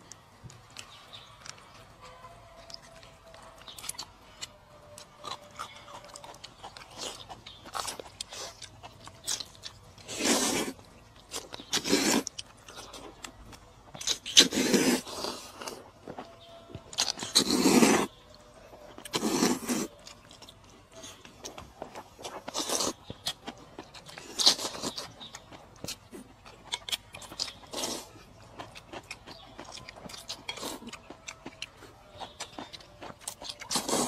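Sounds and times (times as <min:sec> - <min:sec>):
person chewing and smacking food: 0:00.0 - 0:34.0.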